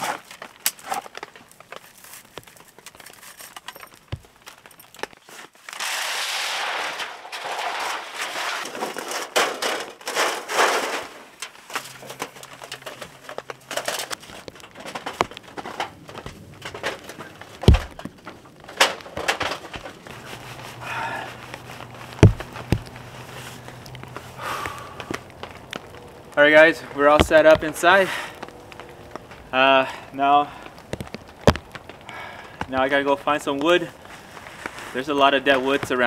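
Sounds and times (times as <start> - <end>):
camping gear rustling: 0.0 - 36.0.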